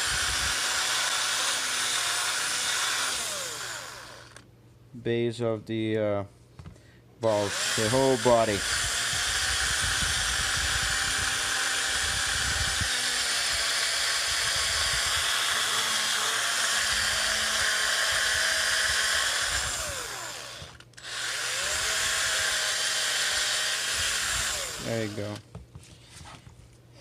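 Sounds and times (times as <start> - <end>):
electric drill motor whir: 0.0 - 4.5, 7.4 - 25.4.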